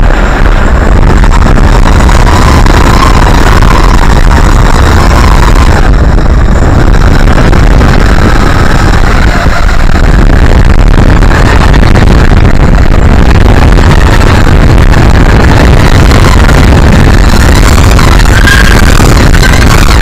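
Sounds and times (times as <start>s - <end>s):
propellers droning: 0.0s - 20.0s
wind buffeting microphone: 0.0s - 20.0s.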